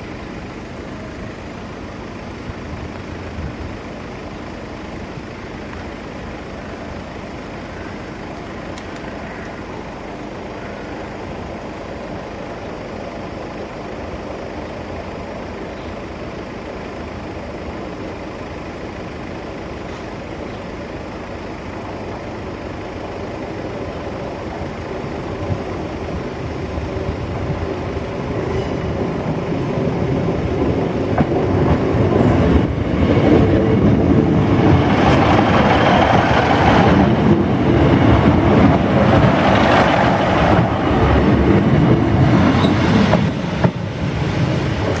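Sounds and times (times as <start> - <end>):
diesel train engine: 0.0 - 45.0
train wheels on rails: 0.0 - 45.0.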